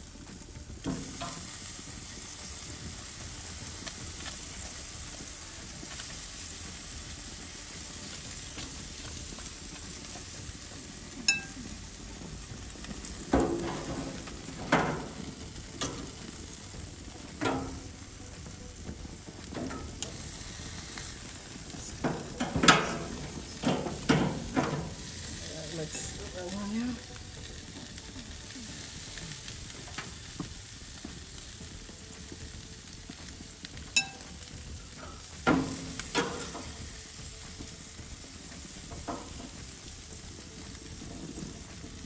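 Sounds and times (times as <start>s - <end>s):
food sizzling: 0.0s - 42.0s.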